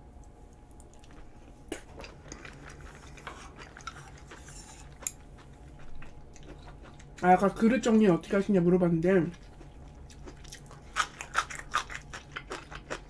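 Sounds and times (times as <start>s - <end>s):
person chewing food: 0.2s - 7.4s, 9.3s - 13.0s.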